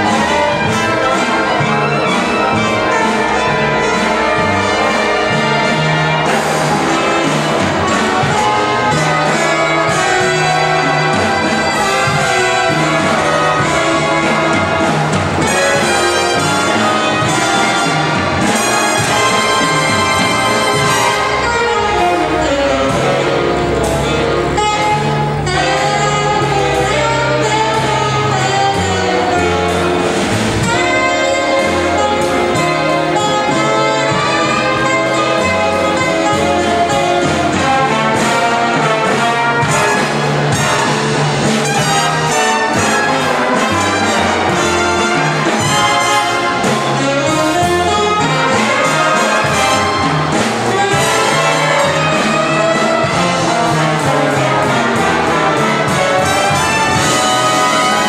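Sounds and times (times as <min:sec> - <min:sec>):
big band playing jazz: 0:00.0 - 0:58.0
walking bass line: 0:00.0 - 0:58.0.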